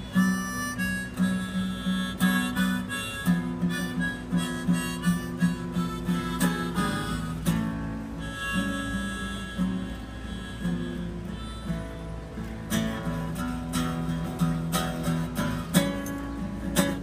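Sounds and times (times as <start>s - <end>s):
fingerpicked acoustic guitar: 0.0s - 17.0s
harmonica playing blues: 0.0s - 17.0s.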